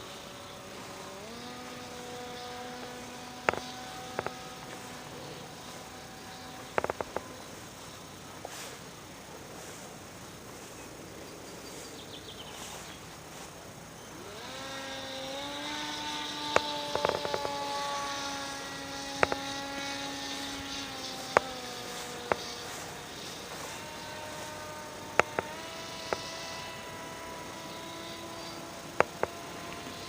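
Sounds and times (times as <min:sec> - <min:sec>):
airplane motor and propeller: 0:00.0 - 0:30.0.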